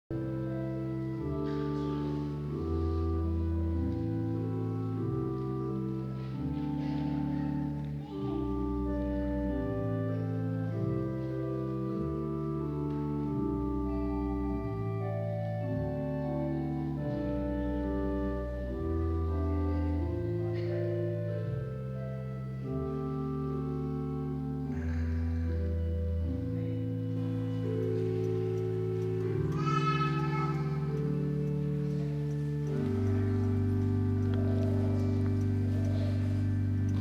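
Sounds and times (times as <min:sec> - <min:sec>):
church organ chords: 0:00.1 - 0:37.0.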